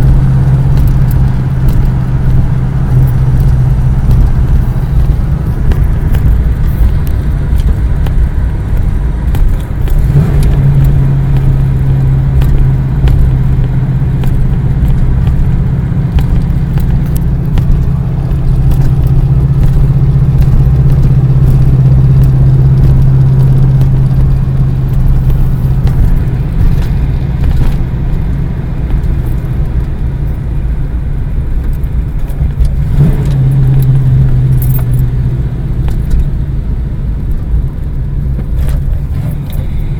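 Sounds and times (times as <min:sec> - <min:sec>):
car running low rumble: 0:00.0 - 0:39.9
low engine drone: 0:00.0 - 0:39.9.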